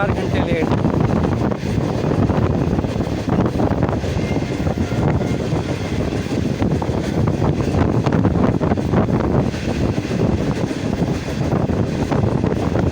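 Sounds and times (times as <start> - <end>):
passenger train rumbling past: 0.0 - 12.9
wind on microphone: 0.0 - 12.9.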